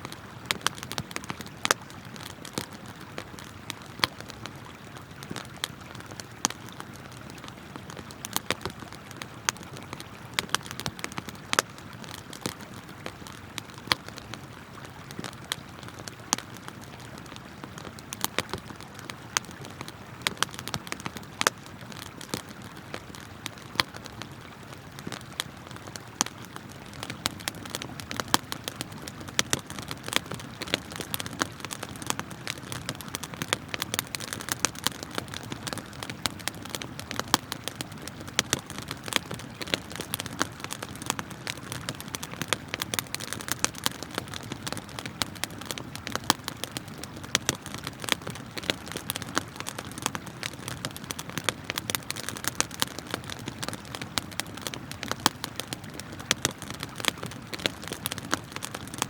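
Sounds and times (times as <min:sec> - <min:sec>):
campfire crackling and popping: 0:00.0 - 0:59.0
flowing river: 0:00.0 - 0:59.0.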